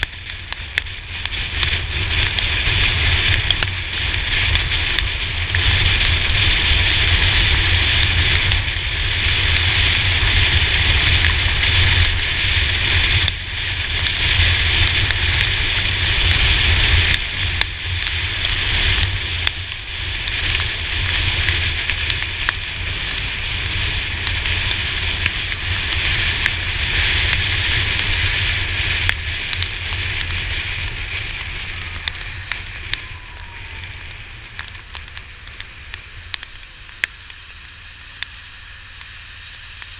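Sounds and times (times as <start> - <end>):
raindrops ticking on camera: 0.0 - 39.9
tyres hissing on wet road: 0.0 - 39.9
wind rumble on camera: 0.0 - 39.9.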